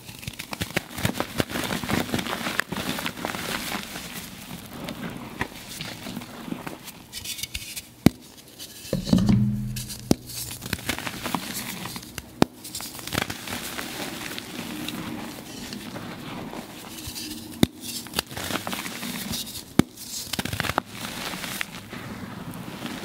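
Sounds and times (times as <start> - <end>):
chalk crumbling with fine crackle: 0.0 - 9.0, 10.3 - 21.9.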